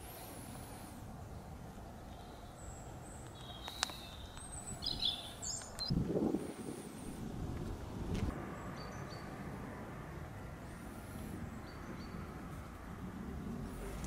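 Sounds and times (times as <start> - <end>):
small birds chirping: 0.0 - 7.2, 8.5 - 9.4, 10.1 - 14.0.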